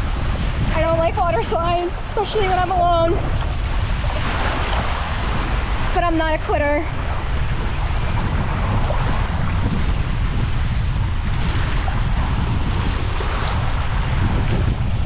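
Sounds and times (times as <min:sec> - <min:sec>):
rushing water: 0:00.0 - 0:15.0
wind buffeting microphone: 0:00.0 - 0:15.0.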